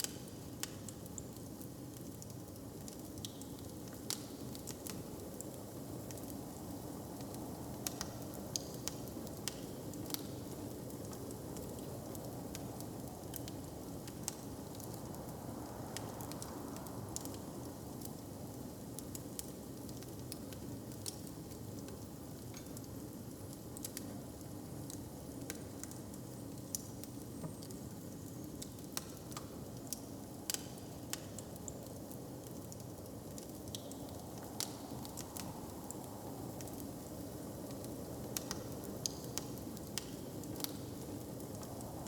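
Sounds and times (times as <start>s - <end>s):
open fire crackling: 0.0s - 42.0s.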